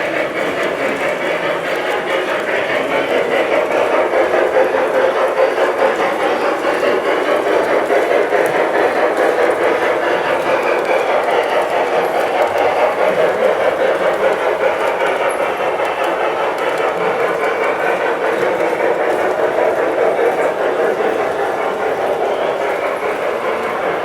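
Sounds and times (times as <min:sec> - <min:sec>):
model train running: 0:00.0 - 0:24.0.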